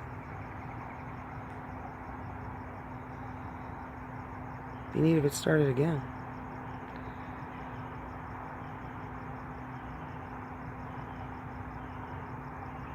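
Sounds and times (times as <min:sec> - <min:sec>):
low even hum: 0:00.0 - 0:12.9.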